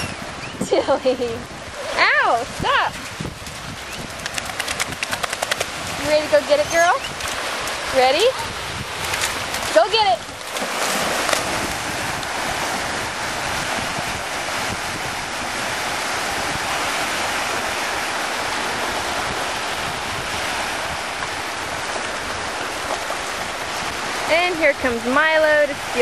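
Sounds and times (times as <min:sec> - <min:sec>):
waves washing on a shore: 0:00.0 - 0:26.0
wind buffeting microphone: 0:00.0 - 0:26.0.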